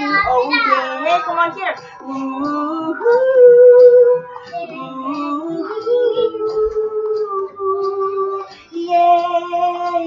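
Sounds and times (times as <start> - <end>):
backing music: 0.0 - 10.0
voices singing held notes: 0.0 - 10.0.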